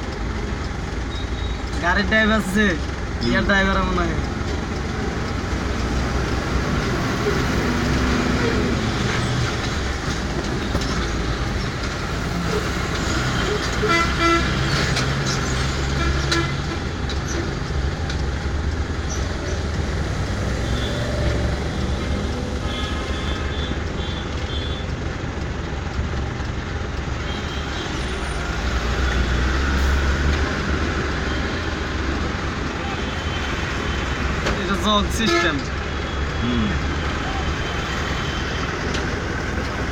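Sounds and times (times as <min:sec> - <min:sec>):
heavy vehicle engine running: 0:00.0 - 0:39.9.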